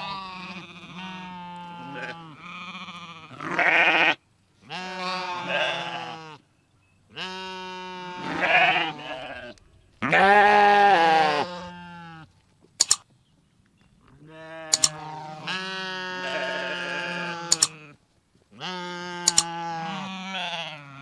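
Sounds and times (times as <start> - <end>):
sheep bleating: 0.0 - 6.4, 7.1 - 12.3, 14.2 - 21.0.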